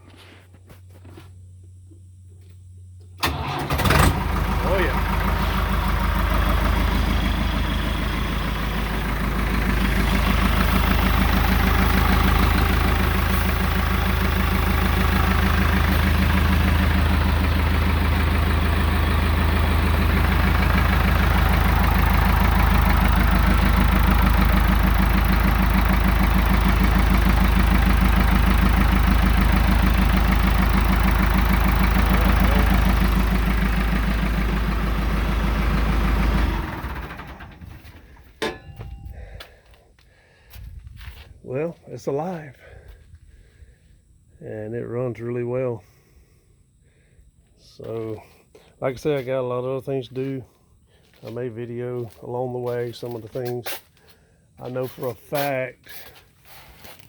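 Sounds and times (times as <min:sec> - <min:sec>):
diesel engine idling: 0:02.8 - 0:57.0.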